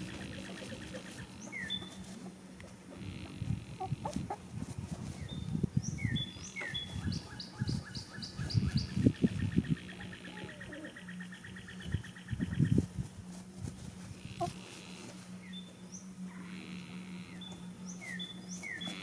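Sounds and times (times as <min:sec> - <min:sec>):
small birds chirping: 0:00.0 - 0:02.3, 0:03.0 - 0:14.8, 0:15.4 - 0:19.0.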